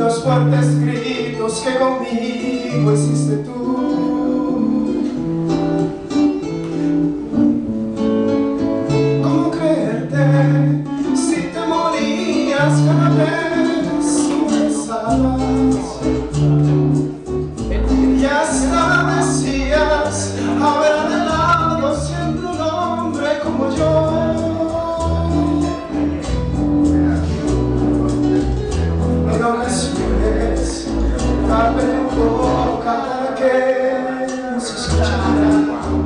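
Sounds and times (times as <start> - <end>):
man singing into a microphone: 0.0 - 5.4, 9.2 - 16.8, 17.7 - 27.4, 29.0 - 36.0
instrumental accompaniment: 0.0 - 36.0
bass line: 2.7 - 36.0.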